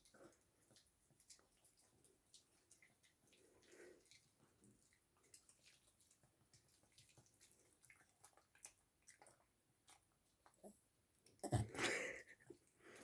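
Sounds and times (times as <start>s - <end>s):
dog chewing food: 0.0s - 10.8s.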